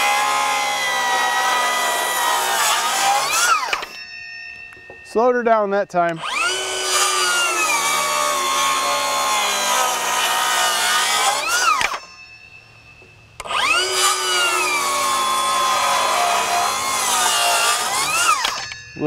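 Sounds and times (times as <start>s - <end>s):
circular saw cutting board: 0.0s - 4.0s, 6.2s - 12.2s, 13.4s - 18.8s.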